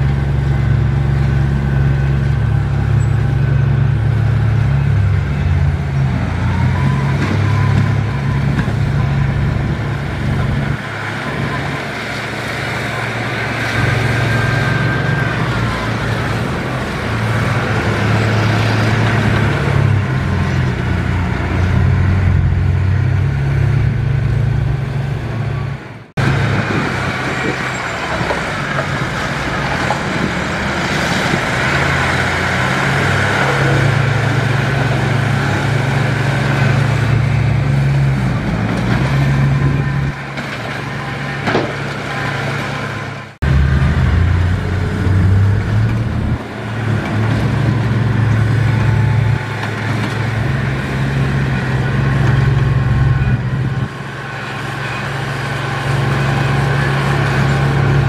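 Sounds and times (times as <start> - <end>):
heavy diesel engine under load: 0.0 - 58.0.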